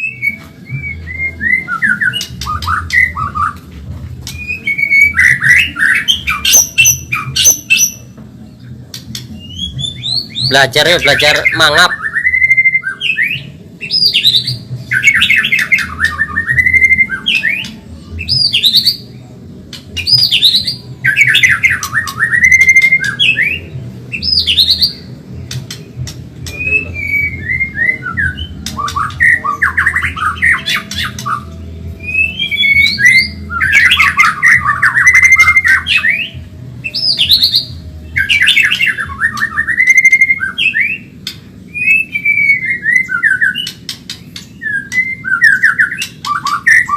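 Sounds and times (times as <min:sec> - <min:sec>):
bird singing trills and whistles: 0:00.0 - 0:46.9.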